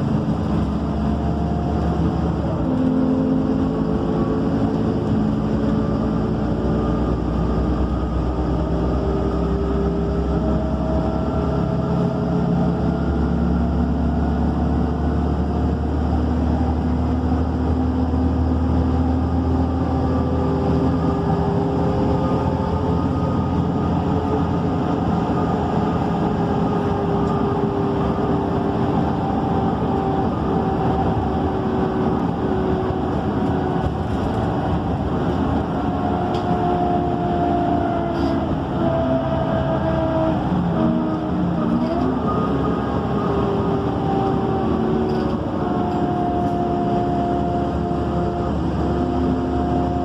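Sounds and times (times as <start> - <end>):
bus engine and road drone: 0.0 - 50.0.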